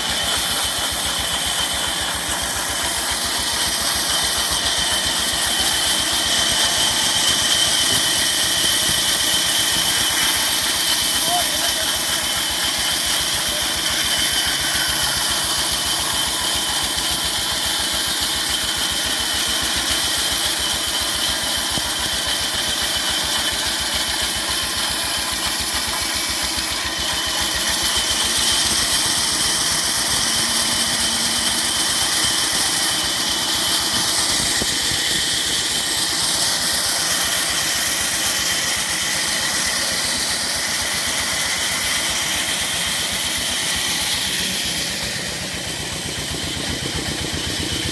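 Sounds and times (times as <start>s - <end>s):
diesel engine running: 0.0s - 21.7s, 22.4s - 47.9s.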